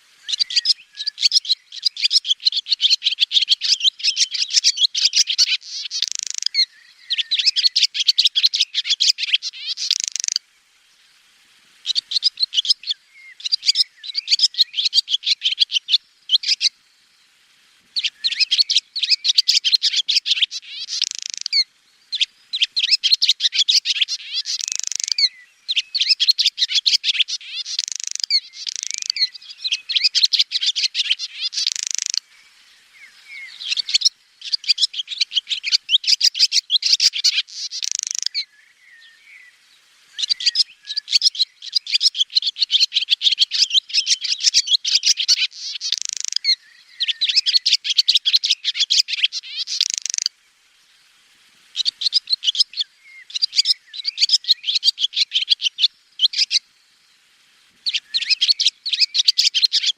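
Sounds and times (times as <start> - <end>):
swallows twittering: 0.0 - 10.4, 11.8 - 17.3, 18.0 - 50.3, 51.7 - 56.6, 57.8 - 59.9.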